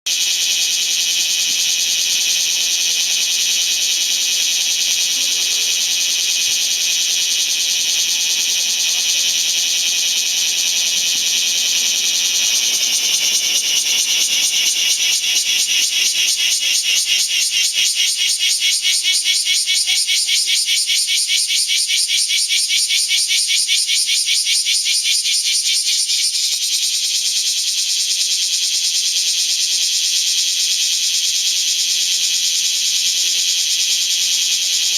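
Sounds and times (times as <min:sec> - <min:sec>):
cicadas buzzing: 0:00.1 - 0:34.9
rapidly pulsing cicada song: 0:00.1 - 0:34.9.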